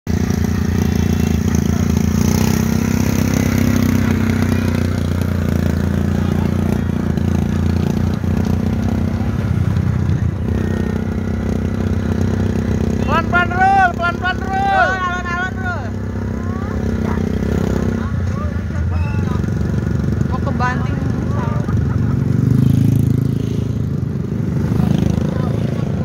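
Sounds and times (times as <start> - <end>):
vehicle engine droning: 0.1 - 26.0.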